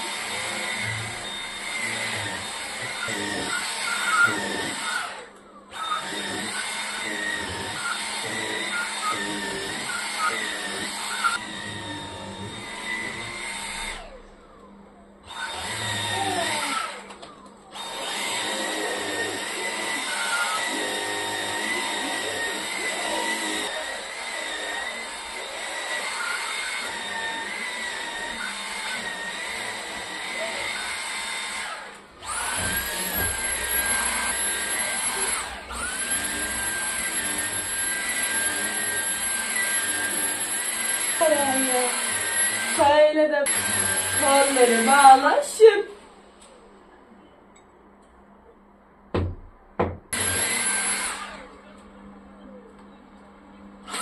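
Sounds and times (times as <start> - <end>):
stick vacuum cleaner whining: 0.0 - 45.8, 49.2 - 51.9.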